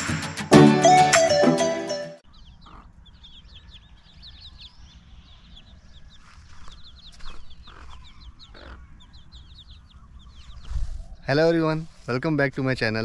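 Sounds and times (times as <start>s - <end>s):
small birds chirping: 2.2s - 13.0s.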